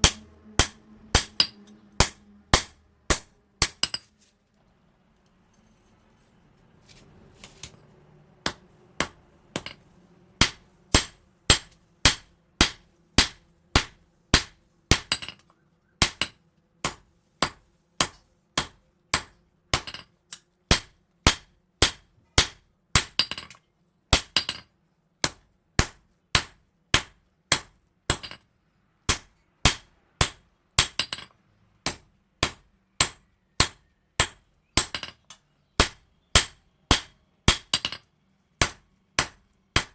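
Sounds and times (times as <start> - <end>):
hammer striking steel on anvil: 0.0 - 4.1, 8.4 - 15.4, 16.0 - 23.6, 25.2 - 28.4, 29.1 - 39.9.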